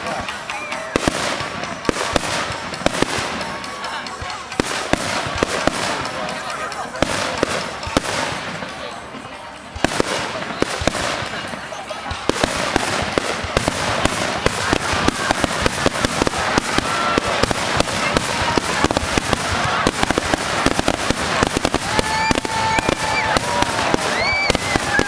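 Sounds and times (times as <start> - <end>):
fireworks crackling: 0.0 - 25.0
pitched fireworks whistles: 0.0 - 25.0.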